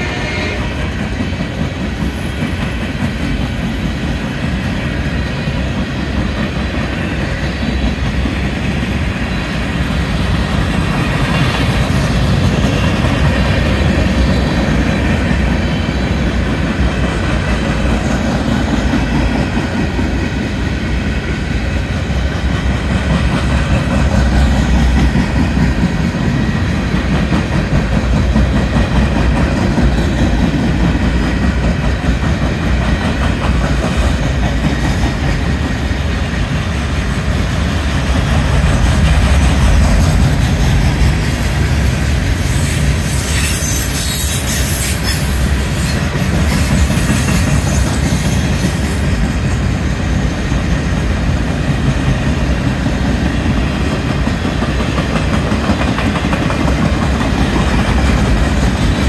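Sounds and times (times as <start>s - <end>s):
freight train rolling past: 0.0s - 59.0s
wheels clacking over rail joints: 0.0s - 59.0s.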